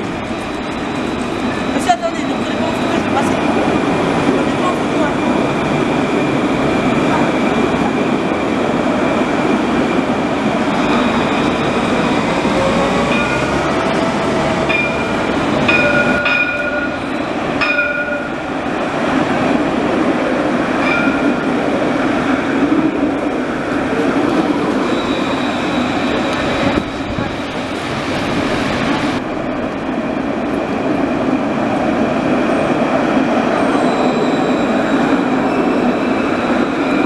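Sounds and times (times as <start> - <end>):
trams rolling past: 0.0 - 37.0.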